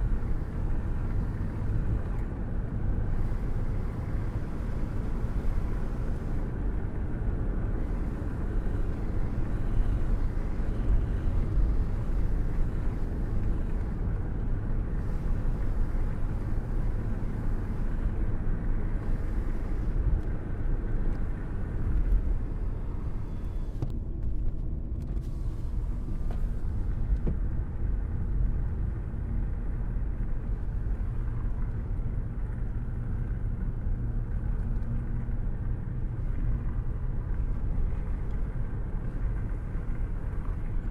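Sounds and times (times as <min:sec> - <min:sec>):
low rumble of rainstorm: 0:00.0 - 0:40.9.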